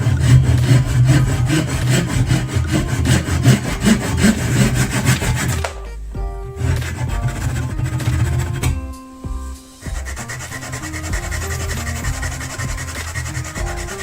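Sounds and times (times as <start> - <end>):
cutting tool scraping wood: 0.0 - 5.9, 6.6 - 8.7, 9.8 - 14.0.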